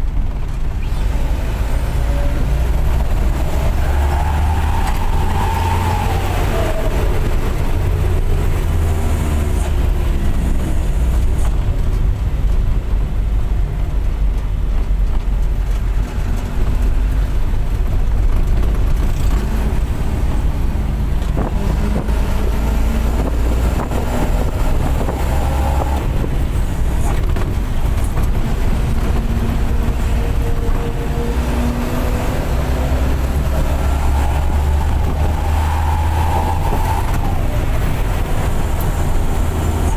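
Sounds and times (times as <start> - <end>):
diesel bus engine rumbling: 0.0 - 39.9.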